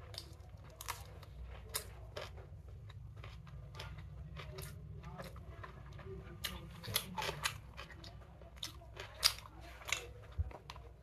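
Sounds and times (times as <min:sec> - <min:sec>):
chewing and mouth smacks: 0:00.0 - 0:11.0.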